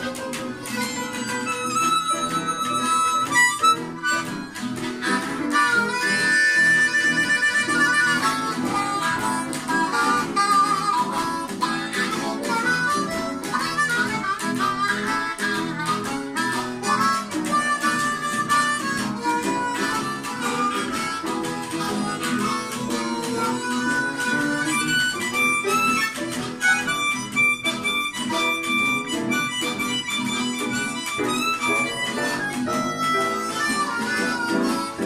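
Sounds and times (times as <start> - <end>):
harmonica playing blues: 0.0 - 35.0.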